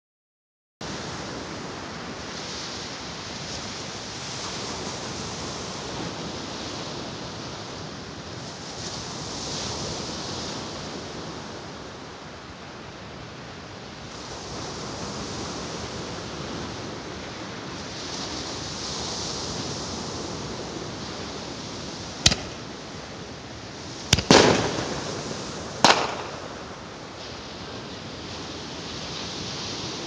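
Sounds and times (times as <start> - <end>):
waves breaking on beach: 0.8 - 30.0.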